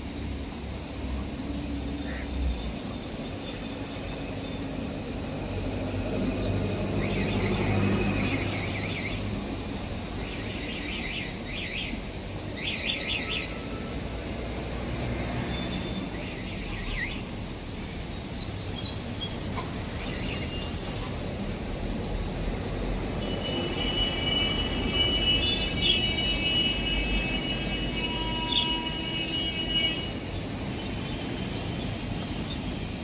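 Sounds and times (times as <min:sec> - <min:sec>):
birds chirping: 0:00.1 - 0:33.0.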